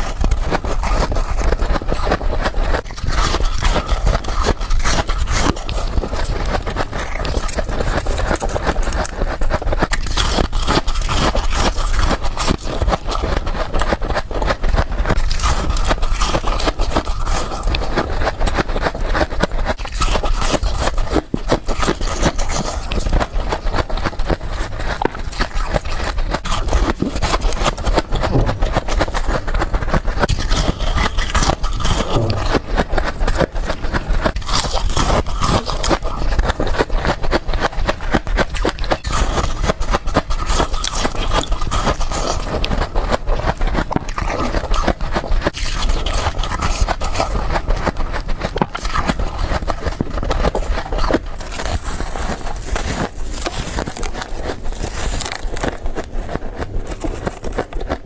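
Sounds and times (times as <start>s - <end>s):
person chewing crunchy frost: 0.0s - 58.0s.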